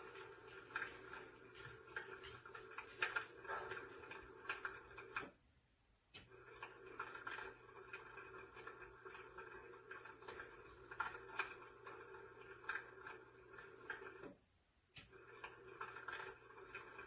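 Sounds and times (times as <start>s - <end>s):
electric fireplace crackling effect: 0.0s - 5.4s, 6.0s - 17.0s.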